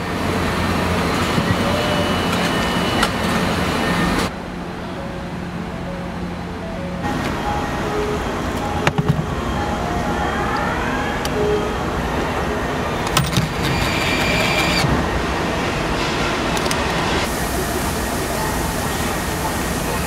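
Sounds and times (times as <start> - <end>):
mechanical hum of assembly line: 0.0 - 20.0.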